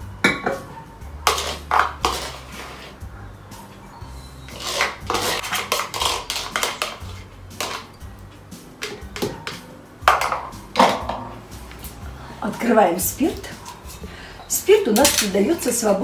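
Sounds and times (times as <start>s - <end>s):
utensils clinking against dishes: 0.0s - 3.0s, 3.6s - 8.1s, 8.7s - 16.0s.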